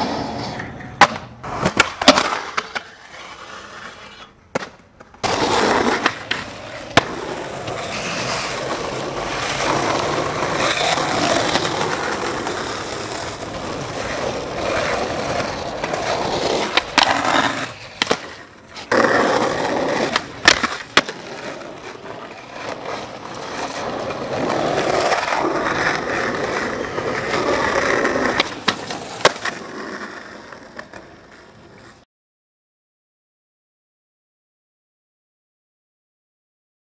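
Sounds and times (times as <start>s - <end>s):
skateboard popping and landing: 0.0s - 32.0s
skateboard wheels rolling on asphalt: 0.0s - 32.1s.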